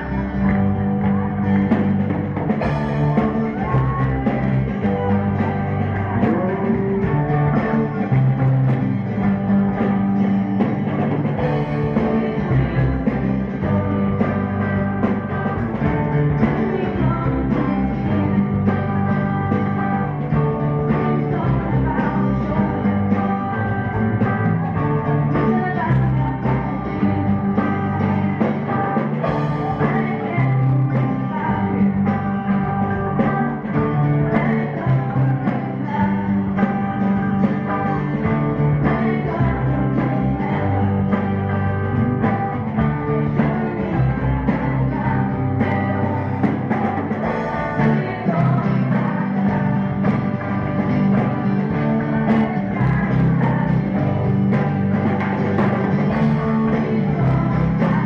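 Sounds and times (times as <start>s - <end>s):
person singing: 0.0s - 58.0s
rock band playing: 0.0s - 58.0s.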